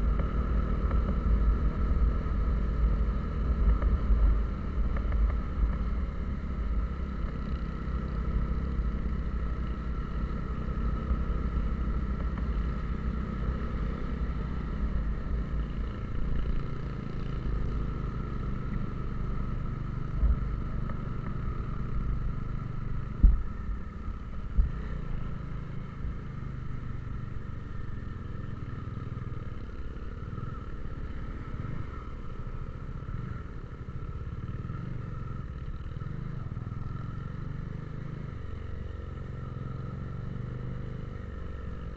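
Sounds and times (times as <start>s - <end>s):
vehicle engine and road rumble: 0.0s - 41.9s.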